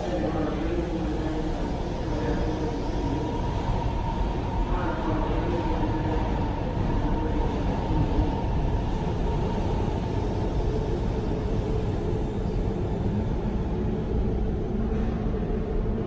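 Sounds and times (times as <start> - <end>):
train running in tunnel: 0.0 - 16.0.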